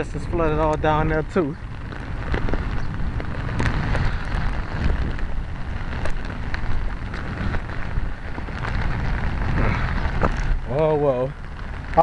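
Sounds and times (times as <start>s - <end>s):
heavy rain hissing: 0.0s - 12.0s
low rumble: 0.0s - 12.0s
rain drops tapping: 0.0s - 12.0s.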